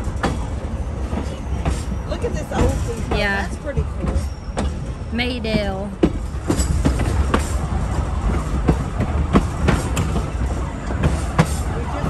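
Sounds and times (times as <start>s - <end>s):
train rumbling: 0.0s - 12.0s
wheels clicking on rails: 0.0s - 12.0s.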